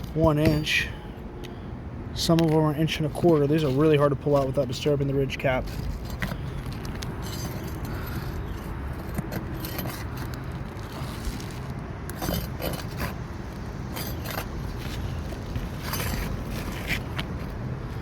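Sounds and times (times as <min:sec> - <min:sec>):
metallic clicks and scrapes: 0:02.2 - 0:17.6.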